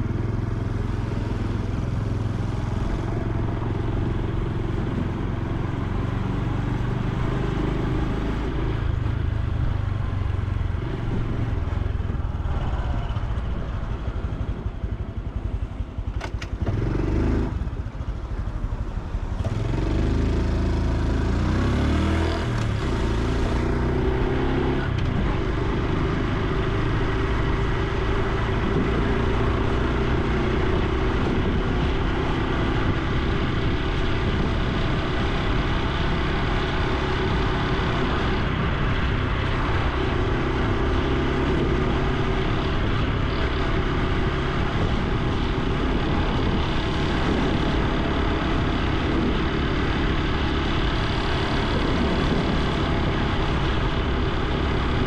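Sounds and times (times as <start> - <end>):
motorcycle engine running: 0.0 - 55.0
road and wind noise: 0.0 - 55.0.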